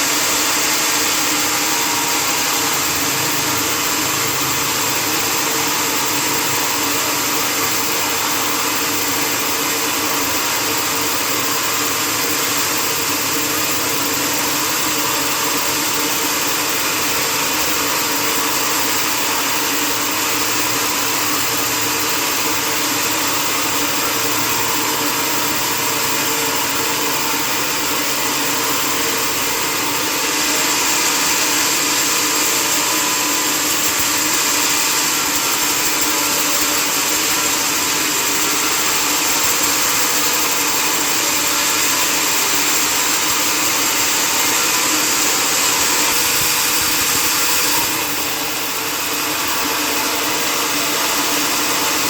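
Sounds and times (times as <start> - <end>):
sawmill machinery humming and hissing: 0.0 - 52.0.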